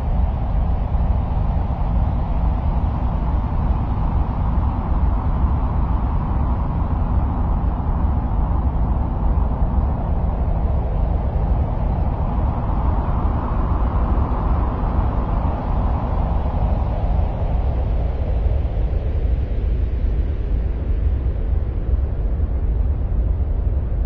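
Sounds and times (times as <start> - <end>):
deep rumbling ambient noise: 0.0 - 24.0.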